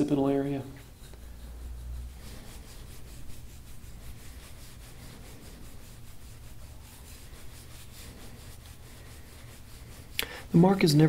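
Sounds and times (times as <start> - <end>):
scraping tool rubbing skin: 0.0 - 11.0.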